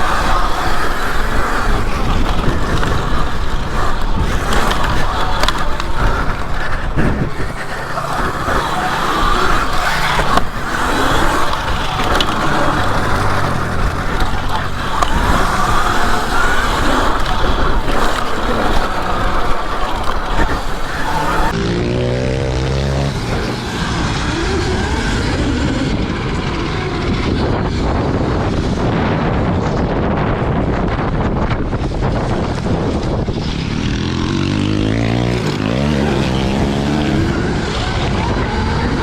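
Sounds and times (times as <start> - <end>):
dirt bike engine rush: 0.0 - 39.0
motorbike passing with whine: 0.0 - 39.0
wind on microphone: 0.0 - 39.0.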